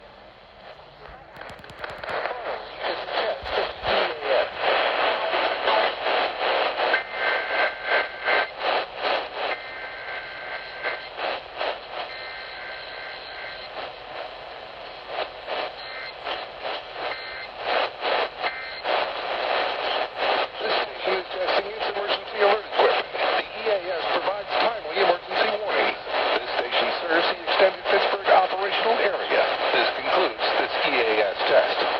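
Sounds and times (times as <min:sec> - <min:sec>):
fast-pulsing radio noise: 0:00.6 - 0:31.9.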